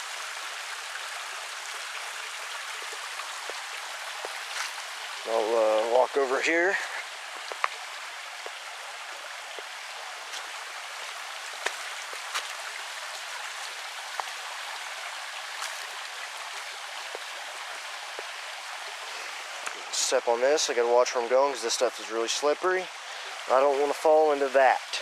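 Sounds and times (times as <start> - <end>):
creek water running over rock: 0.0 - 25.0.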